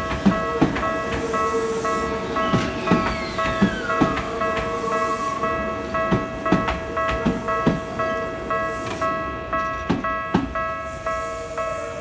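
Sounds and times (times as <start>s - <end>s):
train wheels clacking: 0.0s - 11.8s
level crossing alarm dinging: 0.0s - 12.0s.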